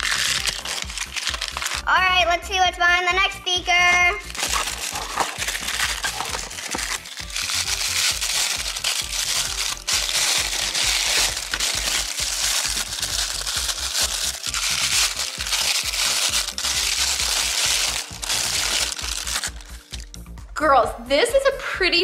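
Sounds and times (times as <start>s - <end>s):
toy packaging crinkling and tearing: 0.0s - 1.9s, 4.2s - 20.2s
background music with steady beat: 0.0s - 22.0s.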